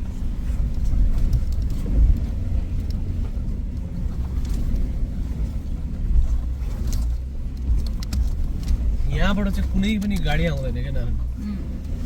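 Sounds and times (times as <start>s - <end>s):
low engine and road rumble: 0.0s - 12.0s.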